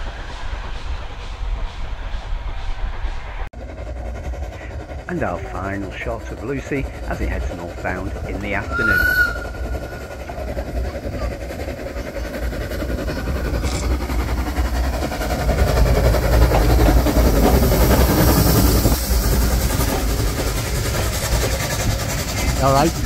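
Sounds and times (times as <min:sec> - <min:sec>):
steam tram engine passing: 0:00.0 - 0:23.0.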